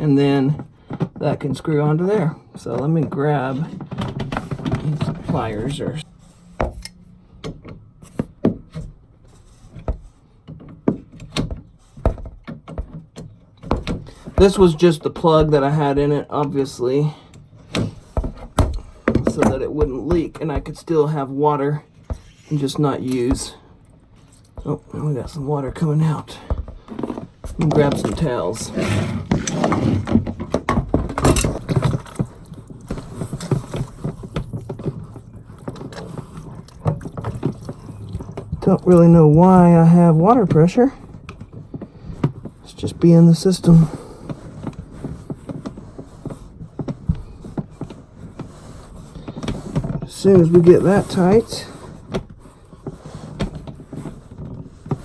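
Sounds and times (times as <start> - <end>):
hands knocking and rustling: 3.1 - 16.6, 17.3 - 21.1, 21.9 - 55.0.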